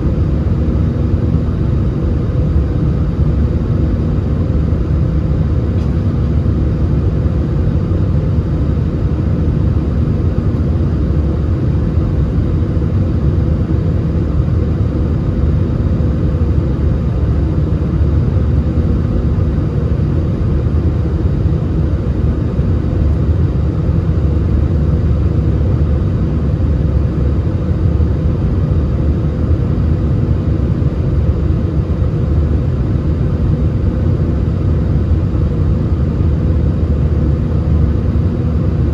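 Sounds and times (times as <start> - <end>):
faint constant hum: 0.0 - 38.9
jet engine low rumble: 0.0 - 38.9.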